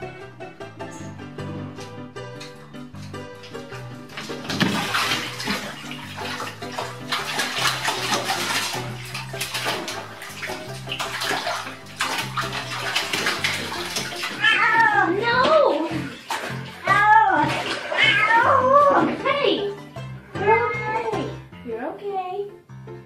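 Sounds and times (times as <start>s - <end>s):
cat splashing in bathtub: 1.8s - 21.3s.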